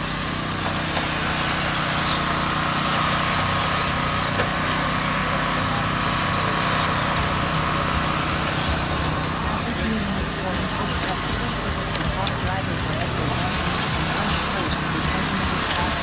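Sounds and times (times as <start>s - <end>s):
rc car motors whining: 0.0s - 16.0s
steady hum: 0.0s - 16.0s.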